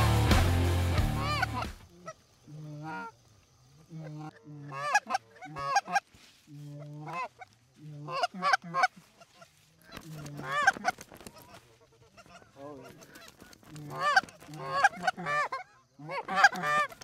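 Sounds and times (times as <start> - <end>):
goose honking: 0.9 - 3.1, 3.9 - 17.0.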